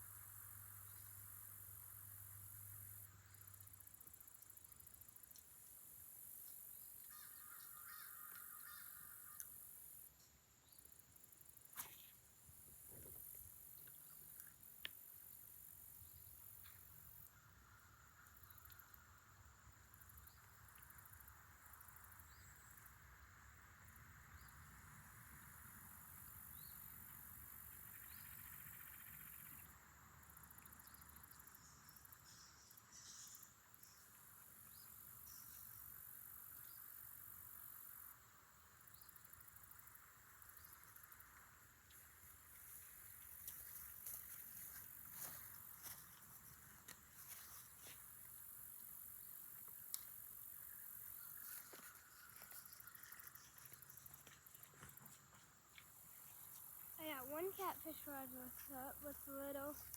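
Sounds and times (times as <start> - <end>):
faint high insect drone: 0.0 - 59.9.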